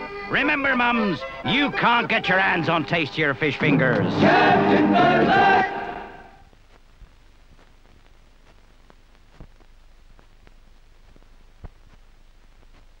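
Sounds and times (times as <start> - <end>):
faint hiss and low hum: 0.0 - 13.0.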